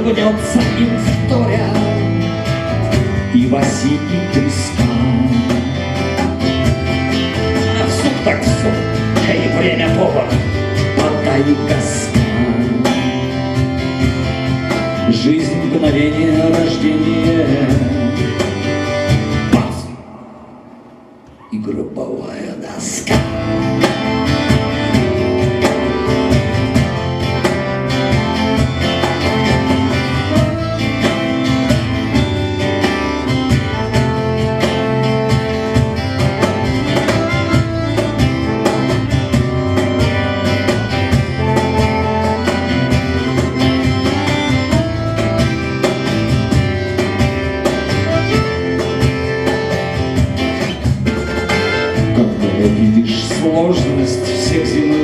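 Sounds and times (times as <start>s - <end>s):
band playing instrumental: 0.0s - 21.4s, 22.8s - 55.0s
guitar: 0.0s - 55.0s.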